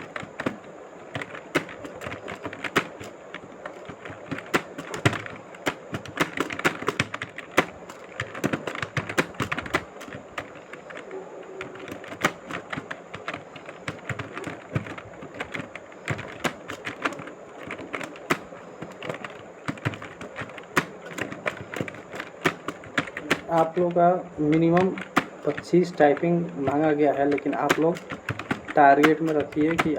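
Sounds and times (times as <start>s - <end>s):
phone keyboard typing taps: 0.0s - 29.9s.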